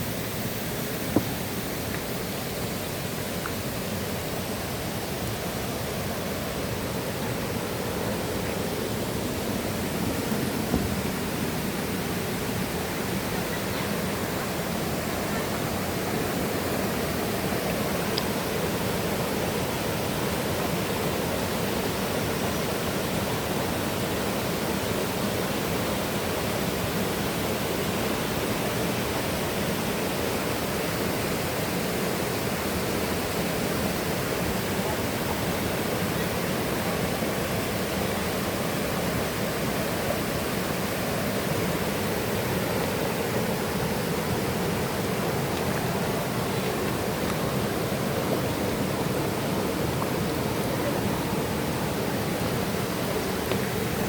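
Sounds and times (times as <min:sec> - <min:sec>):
river and waterfall rushing: 0:00.0 - 0:54.0.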